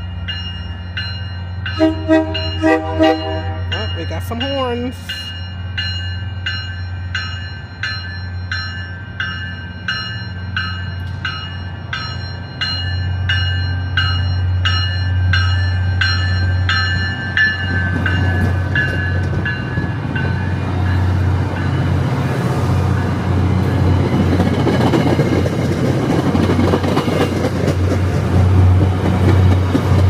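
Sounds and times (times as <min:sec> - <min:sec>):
train bell ringing: 0:00.0 - 0:27.3
diesel locomotive engine hum: 0:00.0 - 0:30.0
train passing noise: 0:00.0 - 0:30.0.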